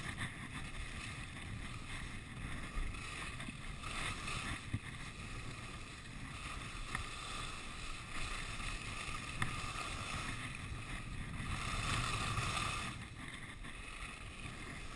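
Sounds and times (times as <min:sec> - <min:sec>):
skis sliding on snow: 0:00.0 - 0:14.9
wind rushing over microphone: 0:00.0 - 0:14.9.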